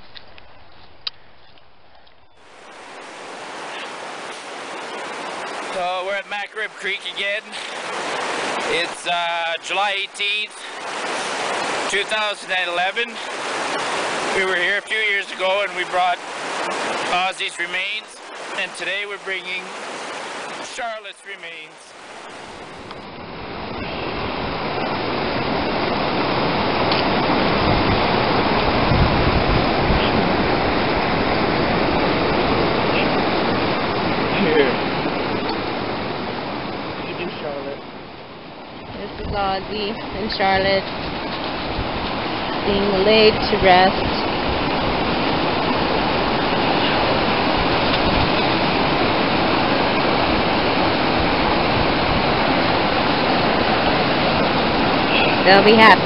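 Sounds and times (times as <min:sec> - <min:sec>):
fast-flowing creek water: 0:02.4 - 0:56.0.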